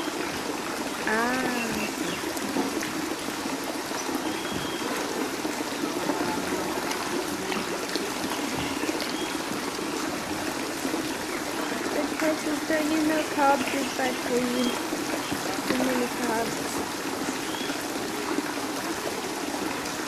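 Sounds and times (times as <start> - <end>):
water trickling and splashing: 0.0 - 20.0.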